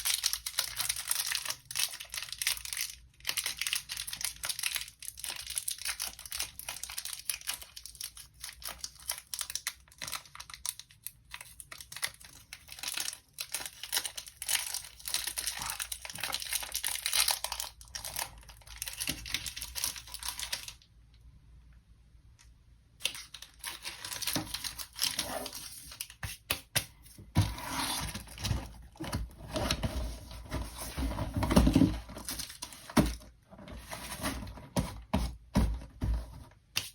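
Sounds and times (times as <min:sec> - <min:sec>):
plastic packaging crinkling and tearing: 0:00.0 - 0:20.9, 0:23.0 - 0:26.4, 0:27.5 - 0:35.0.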